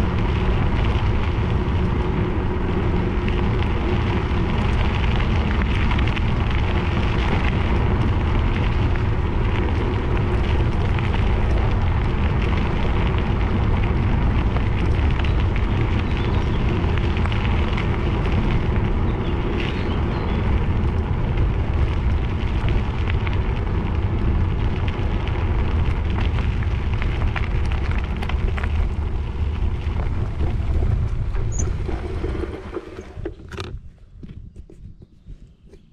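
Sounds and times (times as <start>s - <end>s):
gravel crunching: 0.0s - 35.9s
wind rumble on microphone: 0.0s - 35.9s.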